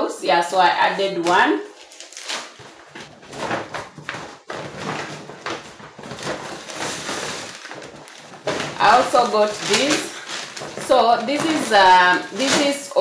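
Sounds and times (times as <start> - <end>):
plastic packaging rustling: 1.3 - 13.0.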